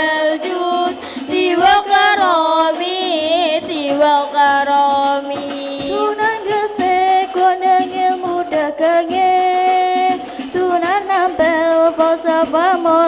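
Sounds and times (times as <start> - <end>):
person singing with melisma: 0.0 - 13.0.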